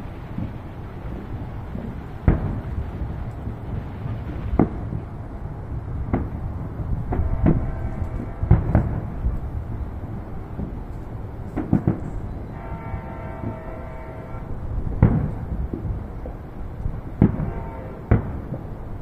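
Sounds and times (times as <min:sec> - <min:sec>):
firework shells booming: 0:00.0 - 0:05.2, 0:06.0 - 0:09.4, 0:10.4 - 0:14.0, 0:14.9 - 0:16.4, 0:17.0 - 0:19.0
steady low rumble: 0:00.0 - 0:19.0.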